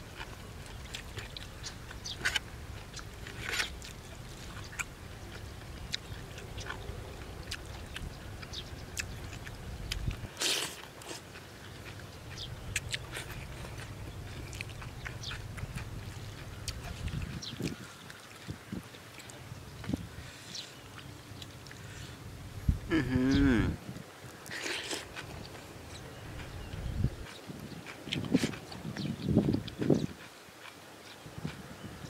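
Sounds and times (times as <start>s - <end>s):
low wind rumble: 0.0s - 30.3s
man chewing food: 0.0s - 32.0s.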